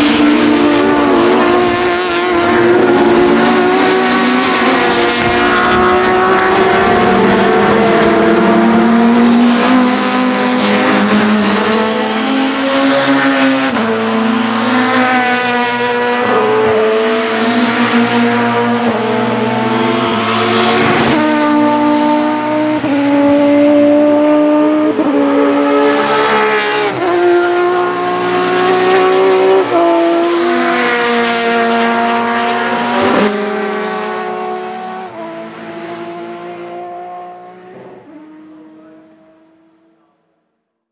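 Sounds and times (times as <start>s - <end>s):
racing car engine at high revs: 0.0s - 40.3s.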